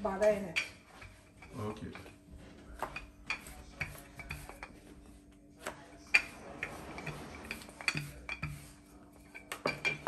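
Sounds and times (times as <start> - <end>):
rolling pin rolling dough: 0.0 - 10.0.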